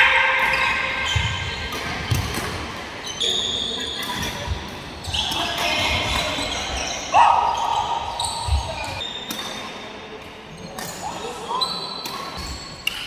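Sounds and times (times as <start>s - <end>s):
players' voices: 0.0s - 12.5s
shoes squeaking on sports floor: 0.4s - 9.8s, 10.5s - 13.0s.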